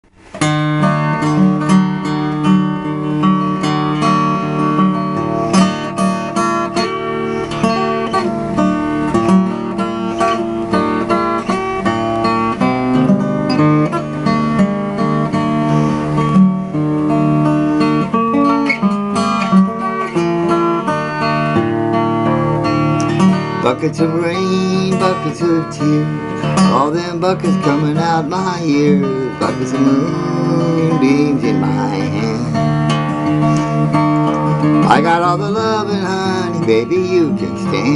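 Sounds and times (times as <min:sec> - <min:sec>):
acoustic guitar playing: 0:00.0 - 0:37.9.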